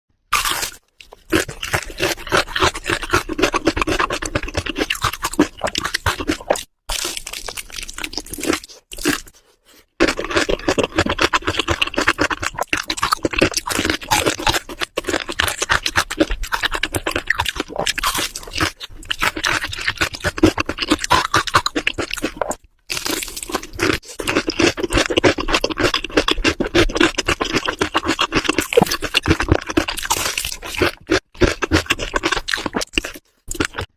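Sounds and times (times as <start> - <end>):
crunching fried chicken: 0.3 - 33.9.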